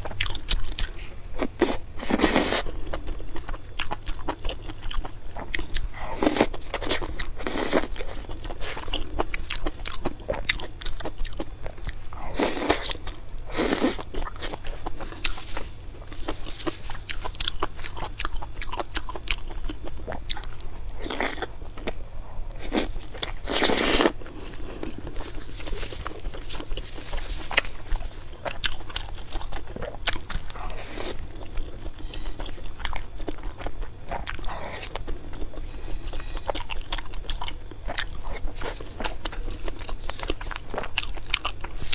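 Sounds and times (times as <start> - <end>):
person biting and chewing: 0.0 - 41.9
steady low hum: 0.0 - 41.9.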